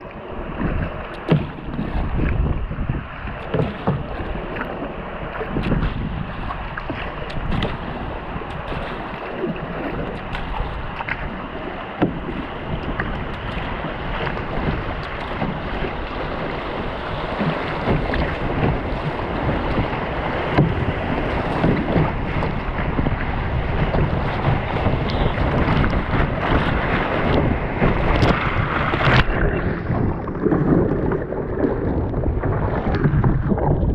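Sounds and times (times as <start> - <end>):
water rushing and splashing: 0.0 - 33.9
wind buffeting microphone: 0.0 - 33.9.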